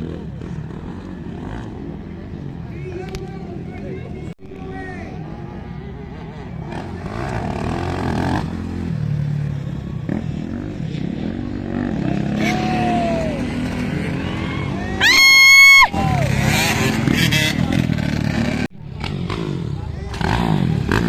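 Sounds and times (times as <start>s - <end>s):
dirt bike engines racing: 0.0s - 21.0s.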